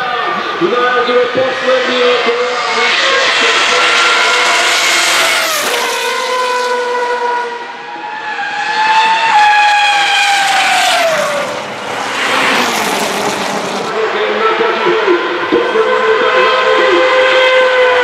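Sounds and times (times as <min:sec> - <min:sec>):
racing cars passing at speed: 0:00.0 - 0:18.0.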